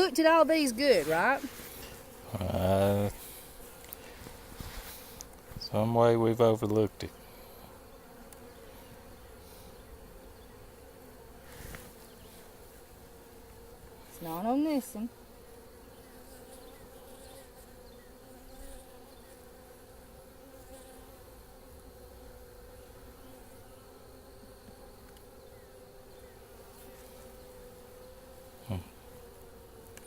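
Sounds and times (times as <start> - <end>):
honeybees humming: 0.0 - 30.0.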